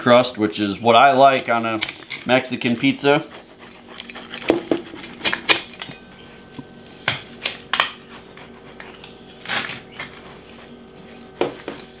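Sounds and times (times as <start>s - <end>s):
pizza cutter crunching crust: 0.6s - 6.0s, 7.2s - 12.0s.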